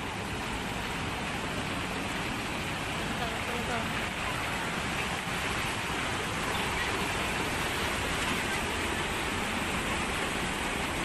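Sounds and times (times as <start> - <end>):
floodwater rushing and churning: 0.0 - 11.0.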